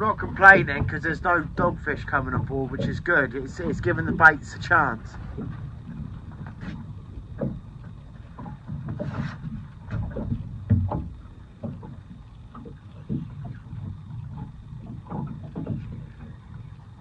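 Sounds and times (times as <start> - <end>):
irregular knocks: 0.0 - 17.0
waves lapping against boat hull: 0.0 - 17.0.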